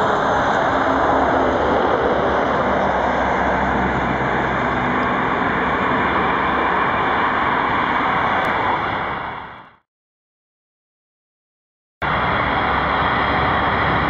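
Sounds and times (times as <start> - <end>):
low engine hum: 0.0 - 9.8, 12.0 - 14.0
train rushing noise: 0.0 - 9.8, 12.0 - 14.0.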